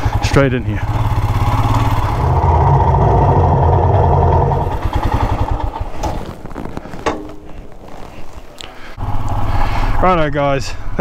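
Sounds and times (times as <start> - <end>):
motorcycle engine running: 0.0 - 8.1, 9.0 - 10.4.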